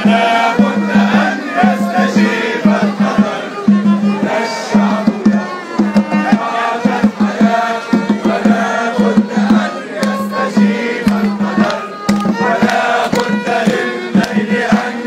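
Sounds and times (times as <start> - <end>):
crowd singing and chanting: 0.0 - 15.0
sharp percussive beats: 0.0 - 15.0
violin: 0.0 - 15.0.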